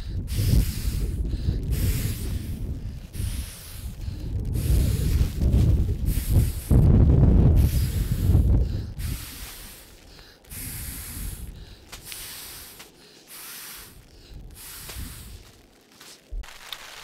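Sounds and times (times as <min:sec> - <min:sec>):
person blowing into sleeping pad: 0:00.2 - 0:15.5.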